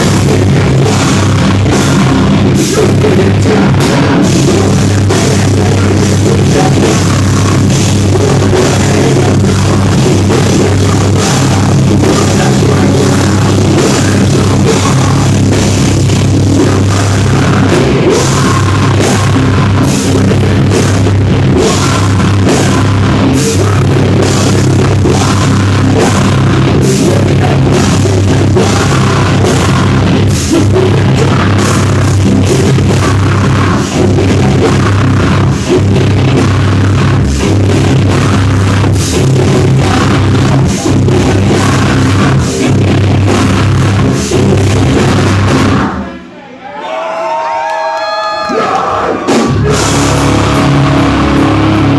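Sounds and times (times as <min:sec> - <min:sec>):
metal band playing live: 0:00.0 - 0:46.1, 0:48.9 - 0:51.9
pounding drum kit: 0:00.0 - 0:46.2, 0:47.7 - 0:51.9.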